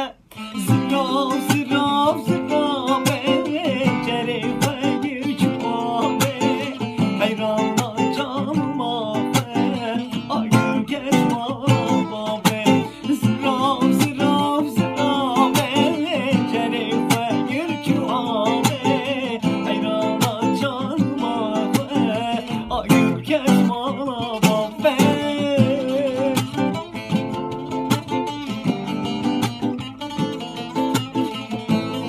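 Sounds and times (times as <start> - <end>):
man singing: 0.0 - 29.3
plucked string instrument strumming: 0.0 - 32.0.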